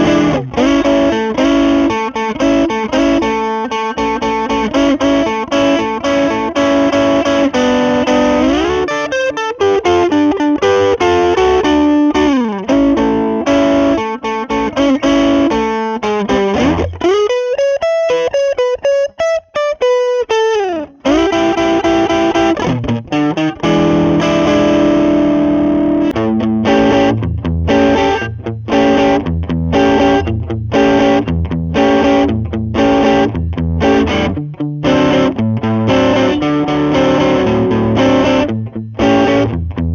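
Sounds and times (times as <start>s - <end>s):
overdriven electric guitar strumming: 0.0s - 39.9s.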